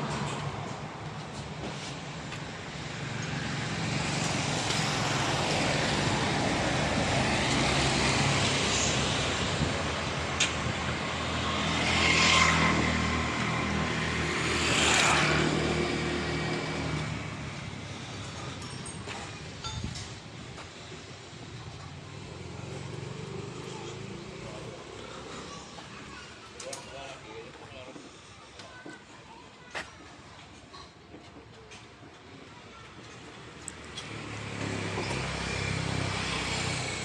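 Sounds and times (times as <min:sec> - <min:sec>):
vehicles passing on a road: 0:00.0 - 0:37.0.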